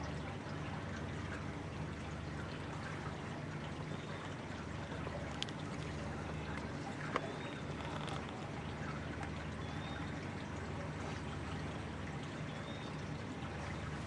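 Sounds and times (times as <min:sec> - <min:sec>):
steady low hum: 0:00.0 - 0:14.0
water lapping and trickling: 0:00.0 - 0:14.0.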